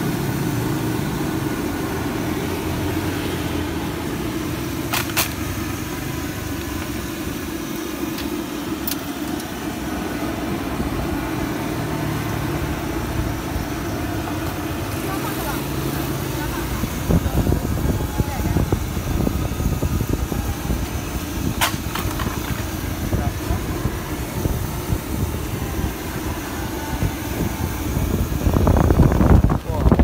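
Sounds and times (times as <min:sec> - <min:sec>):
low engine-like rumble: 0:00.0 - 0:30.0.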